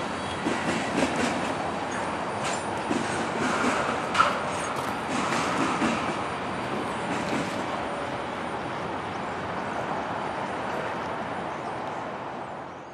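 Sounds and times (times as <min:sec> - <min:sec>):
freight train rolling past: 0:00.0 - 0:12.8.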